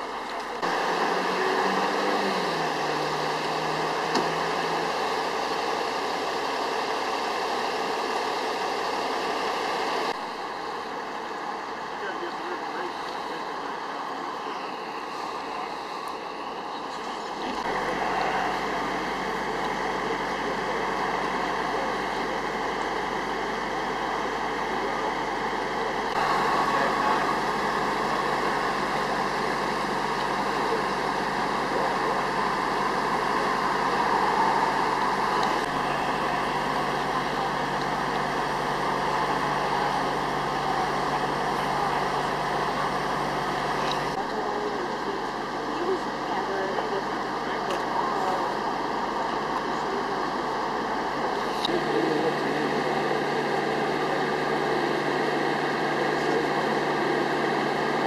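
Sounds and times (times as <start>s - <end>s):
truck engines idling: 0.0s - 58.0s.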